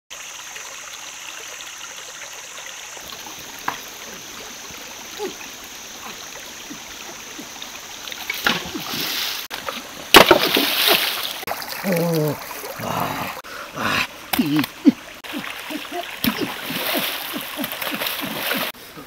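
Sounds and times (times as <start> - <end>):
stream trickling over rocks: 0.1 - 19.0
water splashing: 2.3 - 19.0.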